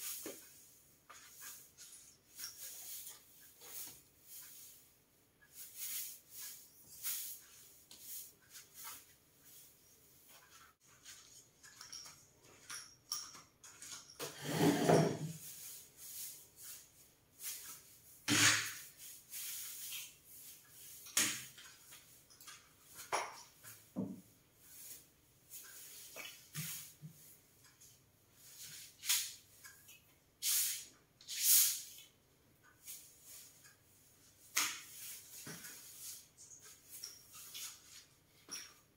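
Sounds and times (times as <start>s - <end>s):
broom brushing against walls: 0.0s - 12.7s, 13.6s - 38.9s.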